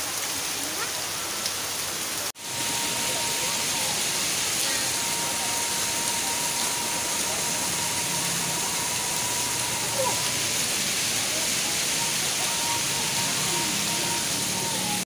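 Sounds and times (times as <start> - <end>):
fountain water splashing: 0.0 - 15.0
faint voices: 0.1 - 15.0
thin steady high tone: 2.4 - 15.0.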